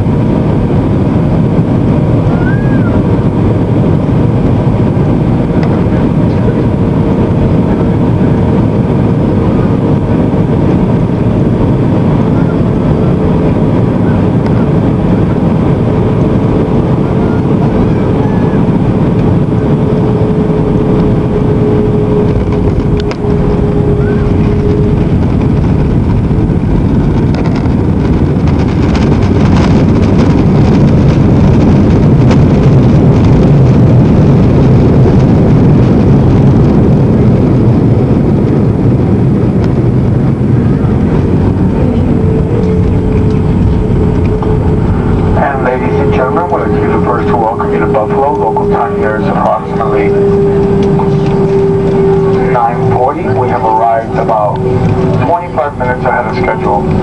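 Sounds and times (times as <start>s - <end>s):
aircraft engines and airflow rumble: 0.0s - 57.0s
steady tone: 0.0s - 57.0s.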